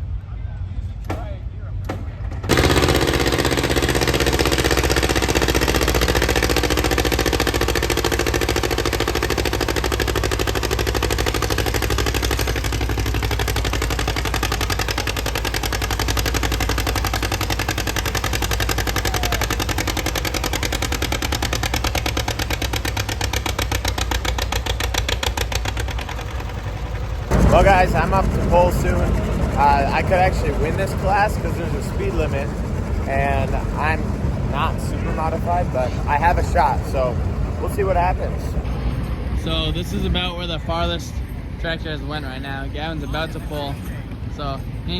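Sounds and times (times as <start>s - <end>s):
tractor engine running: 2.3s - 44.9s.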